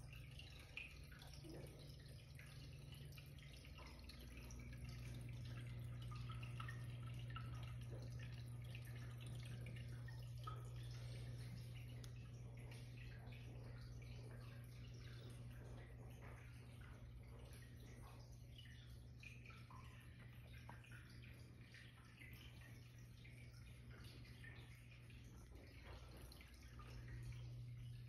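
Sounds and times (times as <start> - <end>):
steady low hum: 0.0 - 28.0
water trickling and dripping: 0.0 - 28.0.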